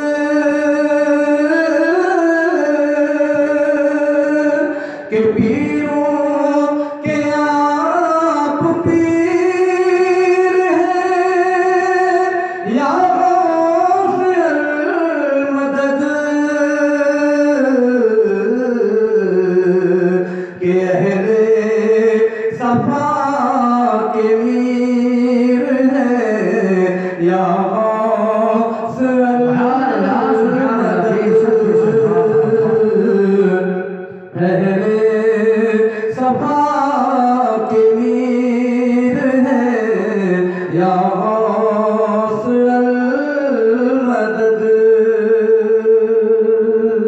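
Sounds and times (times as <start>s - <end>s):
man singing devotional song: 0.0s - 47.0s.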